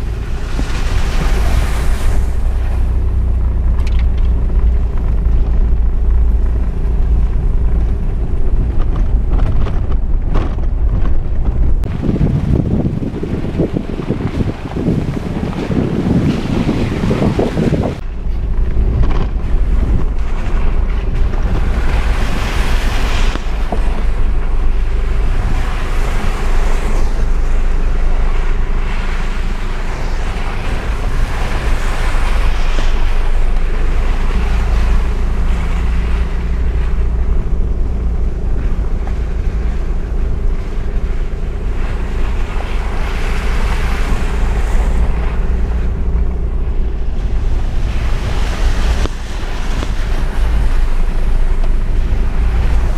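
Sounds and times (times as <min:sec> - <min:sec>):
engine drone inside vehicle cab: 0:00.0 - 0:52.9
low rumble of rough track: 0:00.0 - 0:52.9
wind noise: 0:00.0 - 0:52.9.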